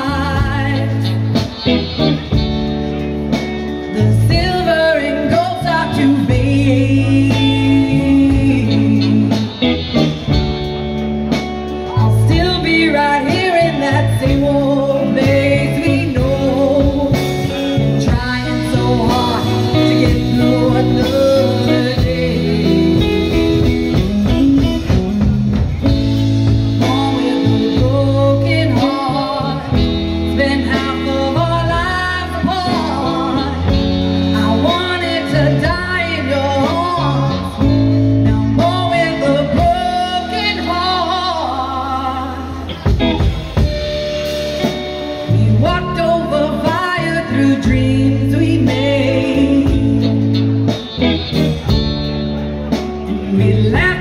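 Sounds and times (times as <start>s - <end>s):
woman singing: 0.0s - 2.4s, 3.7s - 10.3s, 11.8s - 24.9s, 26.4s - 43.8s, 45.2s - 51.8s, 53.0s - 54.0s
drum kit: 0.0s - 54.0s
electric bass: 0.0s - 54.0s
electric guitar: 0.0s - 54.0s.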